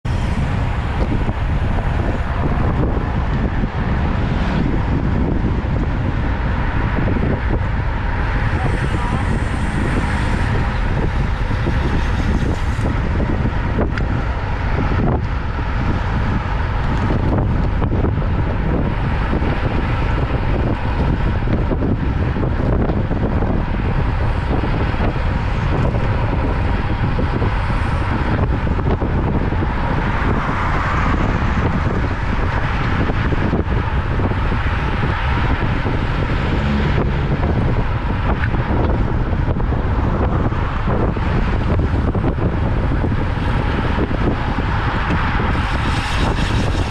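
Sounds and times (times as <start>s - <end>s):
road and traffic noise: 0.0s - 46.9s
wind buffeting microphone: 0.0s - 46.9s.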